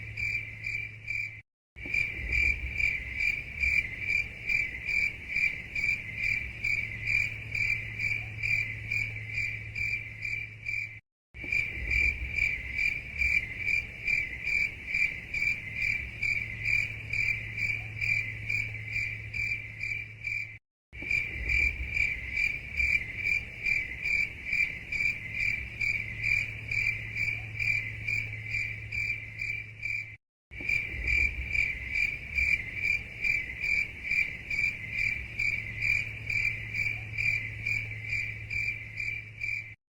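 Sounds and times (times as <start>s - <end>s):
crickets chirping: 0.0s - 39.8s.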